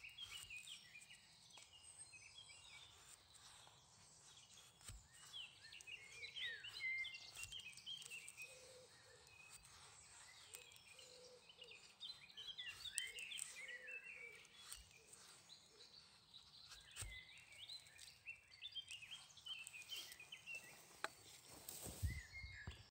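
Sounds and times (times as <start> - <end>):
faint high bird chirping: 0.0 - 22.9.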